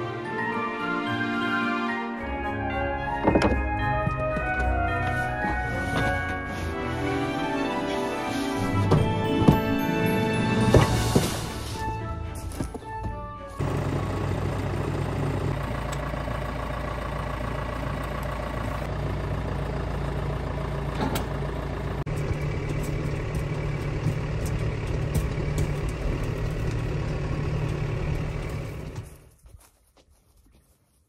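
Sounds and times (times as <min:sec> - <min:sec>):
tractor diesel engine idling: 0:02.2 - 0:29.3.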